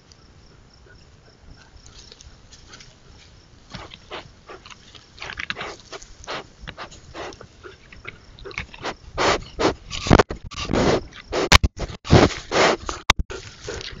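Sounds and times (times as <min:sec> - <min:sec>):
bear cub sniffing: 0:00.5 - 0:14.0.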